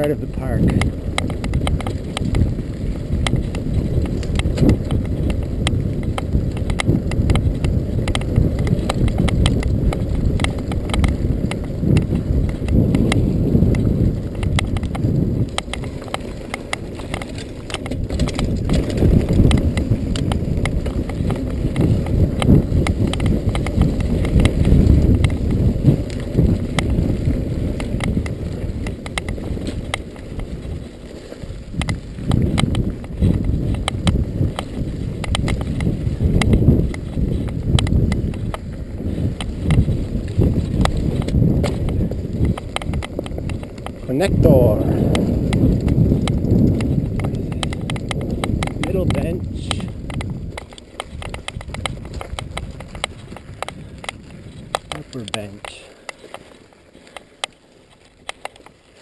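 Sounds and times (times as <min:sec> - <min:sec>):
bike clicking and clattering: 0:00.0 - 0:59.0
bike tyres rumbling on dirt: 0:00.0 - 0:59.0.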